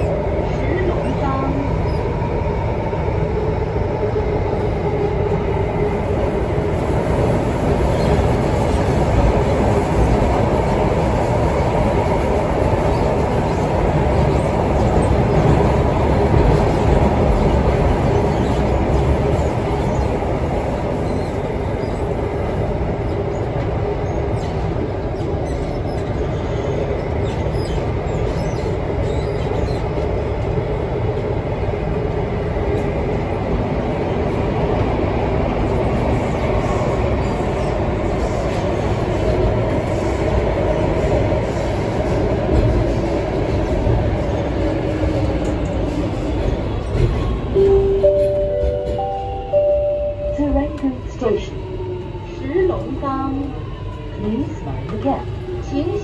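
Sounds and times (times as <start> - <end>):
metro train rumbling in tunnel: 0.0 - 56.0.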